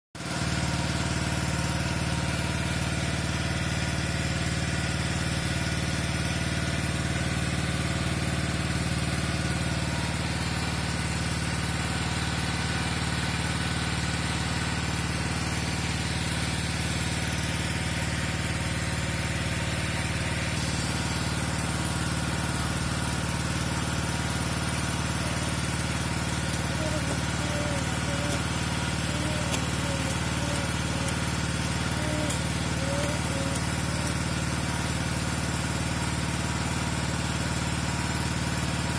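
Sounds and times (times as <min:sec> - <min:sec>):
petrol water pump running: 0:00.2 - 0:38.9.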